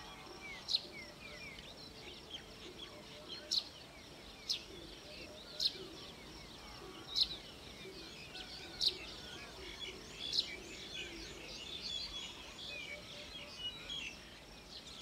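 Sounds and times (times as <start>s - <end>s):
open field background noise: 0.0s - 15.0s
small birds chirping: 0.0s - 15.0s.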